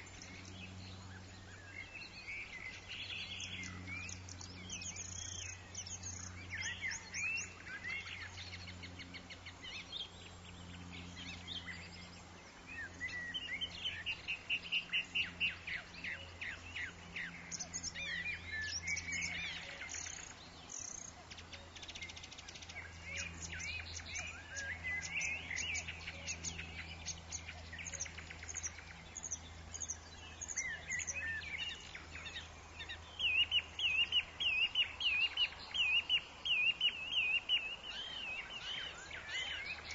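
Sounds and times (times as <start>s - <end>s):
birds singing and chirping: 0.0s - 39.9s
faint low steady hum: 0.0s - 39.9s.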